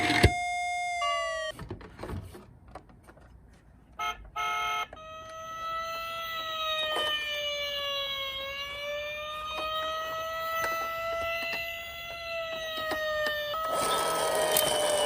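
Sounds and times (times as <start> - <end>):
toy electronic siren wailing: 0.0 - 1.5, 4.0 - 15.0.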